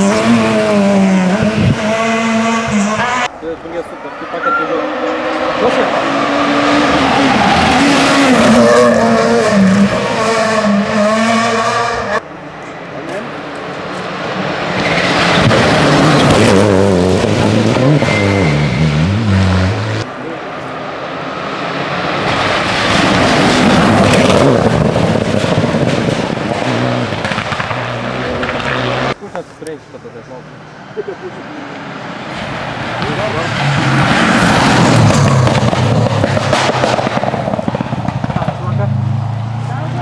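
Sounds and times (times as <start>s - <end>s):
rally cars passing at speed: 0.0s - 40.0s.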